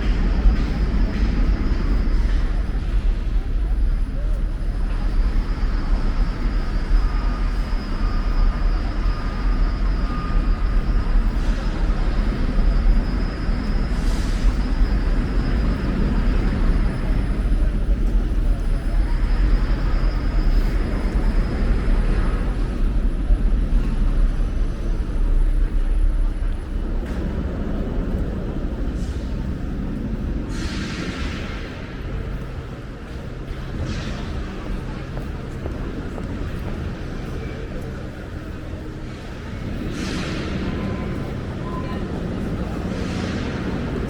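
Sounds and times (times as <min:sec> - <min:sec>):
low rumble of city noise: 0:00.0 - 0:44.0.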